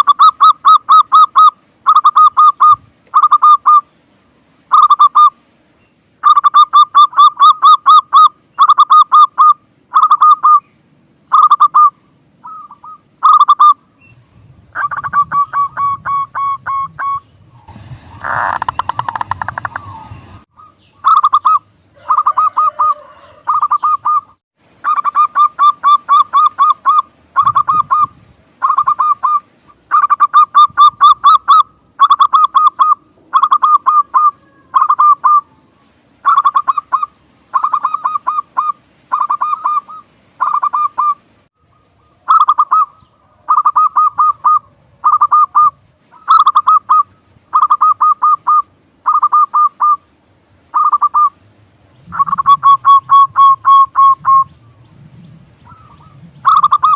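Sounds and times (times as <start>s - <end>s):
dove cooing: 6.2s - 10.7s, 11.3s - 13.8s, 14.8s - 17.3s, 18.2s - 50.1s, 50.7s - 51.4s, 52.0s - 56.9s.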